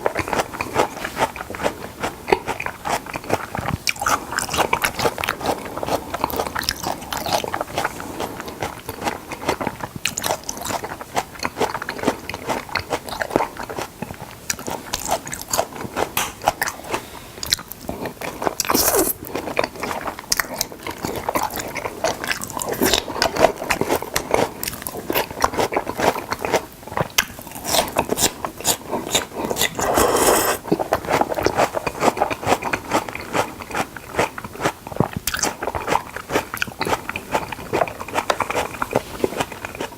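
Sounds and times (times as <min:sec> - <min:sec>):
wet chewing mouth clicks: 0:00.0 - 0:39.9.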